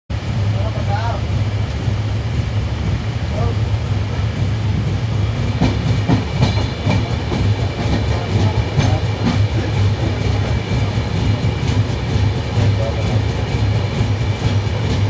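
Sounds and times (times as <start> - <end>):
train low rumble: 0.1 - 15.0
train wheels clacking on rail joints: 1.6 - 15.0.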